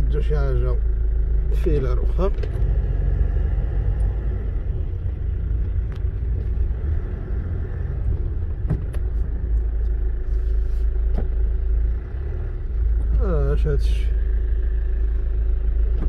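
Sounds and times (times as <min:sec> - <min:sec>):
car low rumble from inside: 0:00.0 - 0:16.0.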